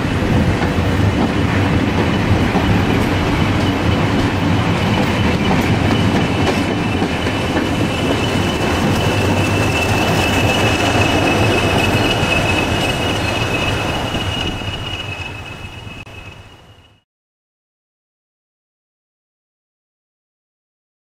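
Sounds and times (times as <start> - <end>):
diesel locomotive passing: 0.0 - 17.0
train coaches rolling over rails: 0.0 - 17.0.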